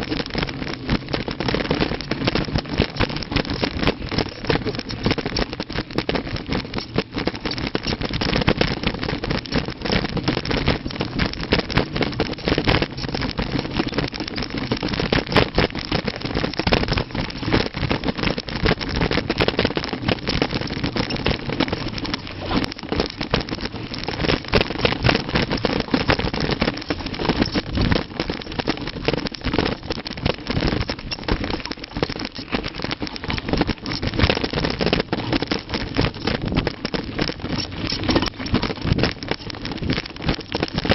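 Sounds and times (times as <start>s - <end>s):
mountain bike rattling on rough trail: 0.0s - 40.9s.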